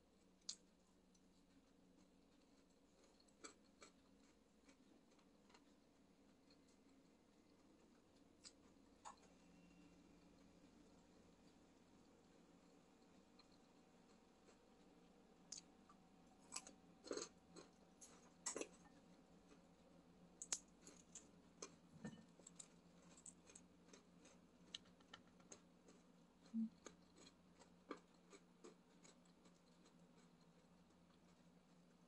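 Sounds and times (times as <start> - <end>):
person chewing food: 0.2 - 32.0.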